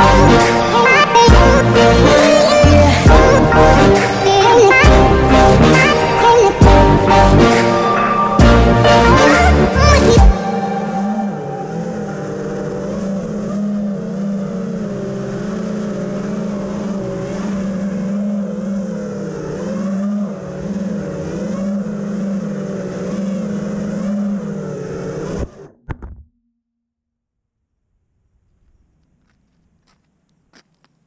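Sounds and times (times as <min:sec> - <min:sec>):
quadcopter motors whining: 0:00.0 - 0:25.8.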